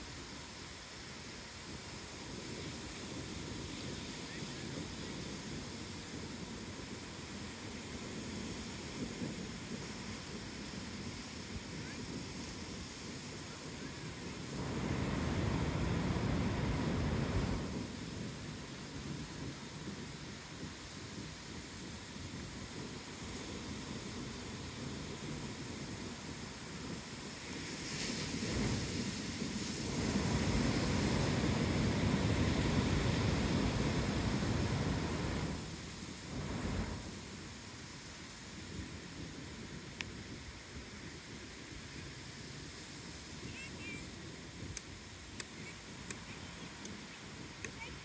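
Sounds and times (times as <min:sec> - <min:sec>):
ocean surf on beach: 0:00.0 - 0:48.0
wind rumbling on microphone: 0:00.0 - 0:48.0
waves breaking: 0:00.1 - 0:48.0.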